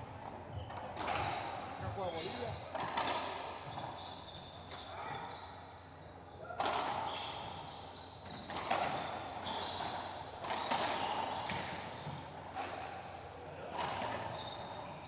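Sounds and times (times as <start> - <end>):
racquetball hitting racquets and walls: 0.0 - 5.3, 6.4 - 15.0
shoes squeaking on hardwood floor: 0.2 - 5.8, 7.0 - 15.0.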